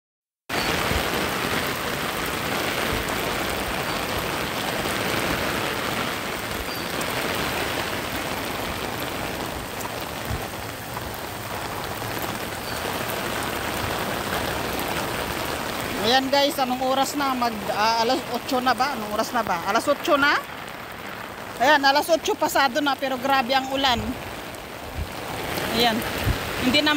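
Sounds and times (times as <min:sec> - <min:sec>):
heavy rain on pavement: 0:00.5 - 0:26.9.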